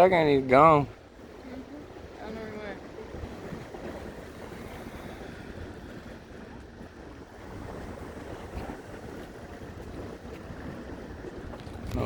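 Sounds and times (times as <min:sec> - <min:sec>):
lake waves washing: 0:00.0 - 0:12.0
wind buffeting microphone: 0:00.0 - 0:12.0.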